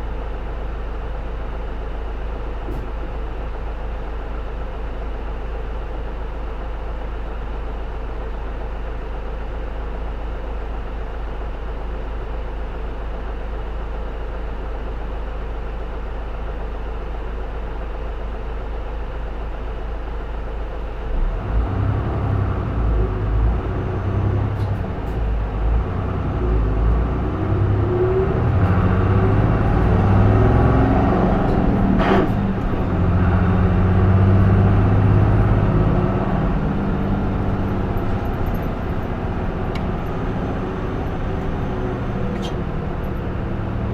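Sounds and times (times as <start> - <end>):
bus diesel engine: 0.0 - 43.9.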